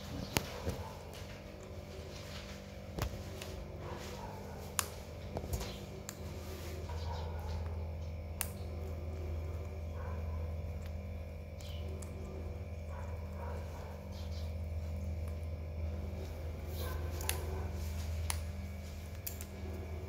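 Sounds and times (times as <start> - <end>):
parakeet chewing fruit: 0.0 - 20.0
steady low hum: 0.0 - 20.0.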